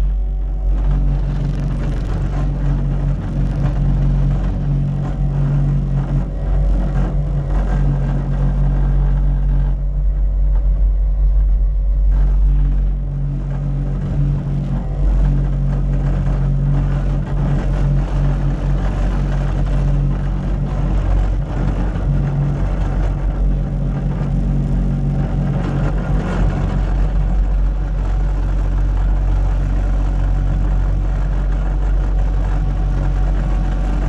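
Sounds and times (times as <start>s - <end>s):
diesel engine drone: 0.0s - 34.0s.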